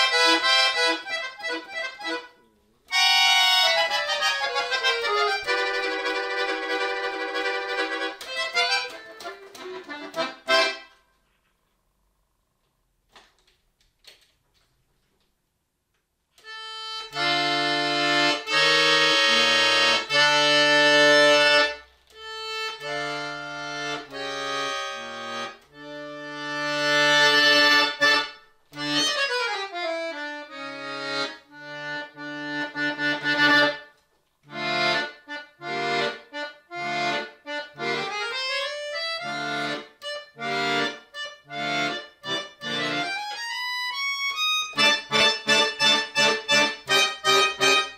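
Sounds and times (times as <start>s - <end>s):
button accordion: 0.0s - 11.2s, 16.4s - 47.9s.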